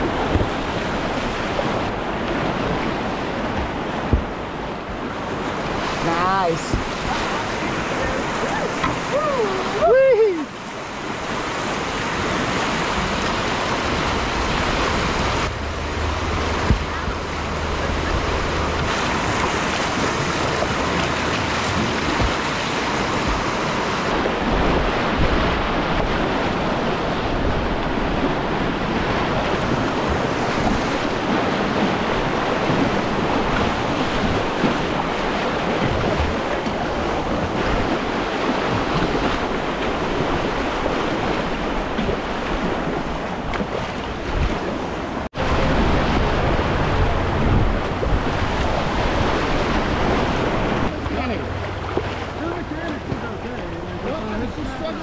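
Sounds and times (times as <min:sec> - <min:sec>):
wind noise on microphone: 0:00.0 - 0:05.8, 0:11.2 - 0:50.9
whitewater rapids rushing: 0:00.0 - 0:55.0.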